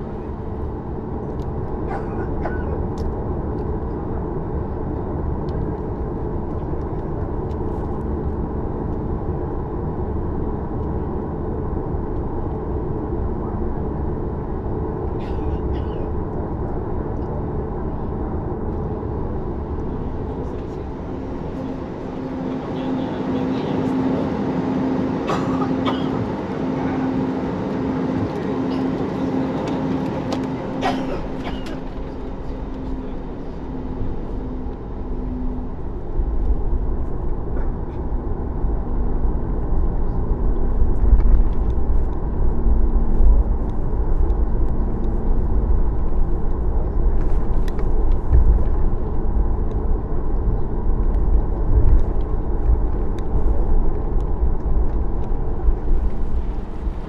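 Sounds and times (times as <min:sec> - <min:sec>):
deep rumble: 0:00.0 - 0:57.0
jet engines humming: 0:00.0 - 0:57.0.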